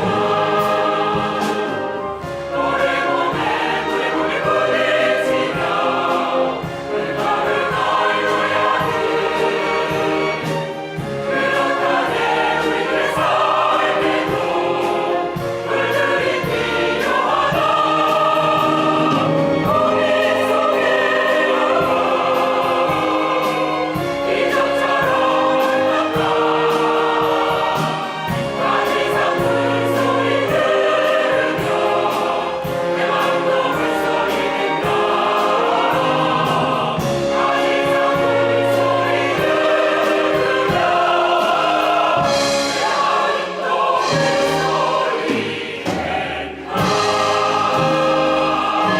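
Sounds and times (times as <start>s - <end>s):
choir singing with accompaniment: 0.0s - 48.9s.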